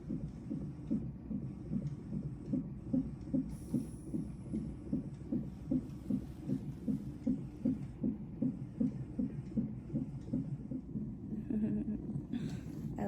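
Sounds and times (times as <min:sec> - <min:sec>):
doppler fetal heartbeat pulses: 0:00.0 - 0:13.0.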